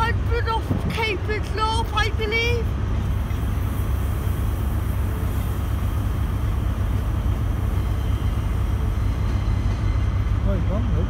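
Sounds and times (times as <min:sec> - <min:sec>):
electric train rolling past: 0:00.0 - 0:11.0.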